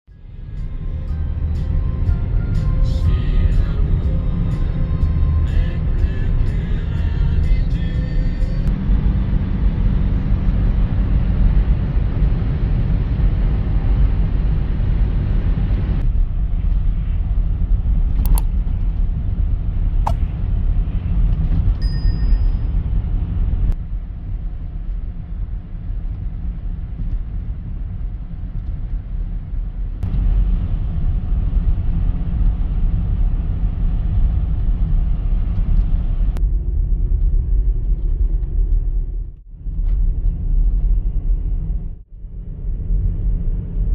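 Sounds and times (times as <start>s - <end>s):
car engine and tyres rumbling: 0.1s - 43.9s.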